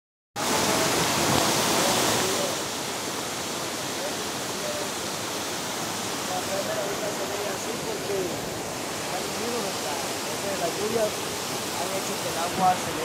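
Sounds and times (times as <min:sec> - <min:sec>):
river water rushing over rocks: 0:00.4 - 0:13.0.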